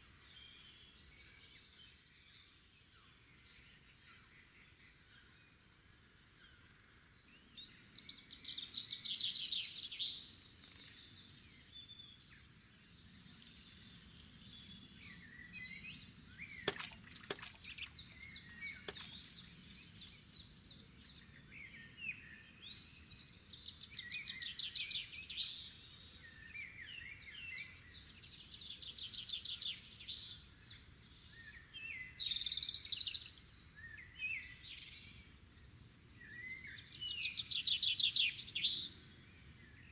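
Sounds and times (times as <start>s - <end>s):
songbirds trilling: 3.3s - 39.9s.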